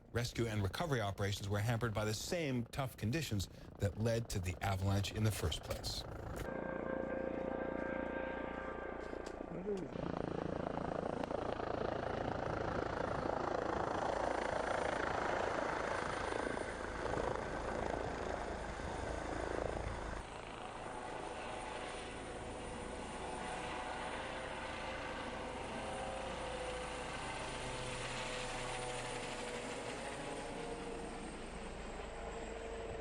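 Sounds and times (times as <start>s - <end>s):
helicopter engine and rotor: 0.0s - 33.0s.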